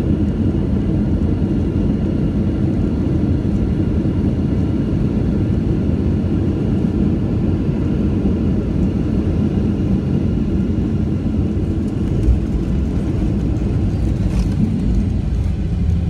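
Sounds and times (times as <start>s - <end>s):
plane engines and wheels rumbling: 0.0s - 16.0s.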